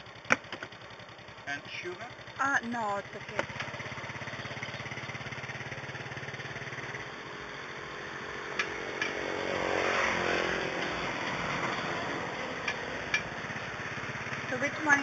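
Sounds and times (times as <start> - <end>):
small motorcycle engine: 0.0 - 15.0.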